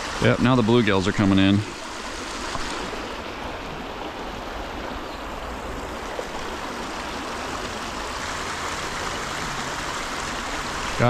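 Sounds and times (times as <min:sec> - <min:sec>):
creek water rushing over stones: 0:00.0 - 0:11.0.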